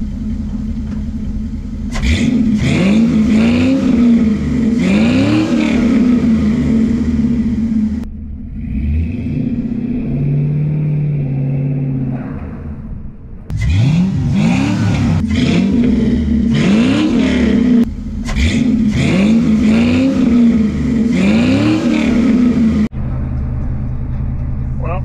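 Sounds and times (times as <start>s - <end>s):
pickup truck engine idling and revving: 0.0s - 25.0s.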